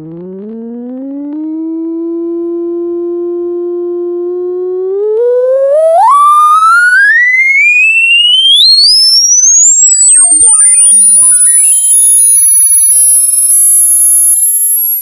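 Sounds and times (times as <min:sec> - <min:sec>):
electronic test tone sweep: 0:00.0 - 0:15.0
faint tones sliding downward: 0:00.0 - 0:15.0.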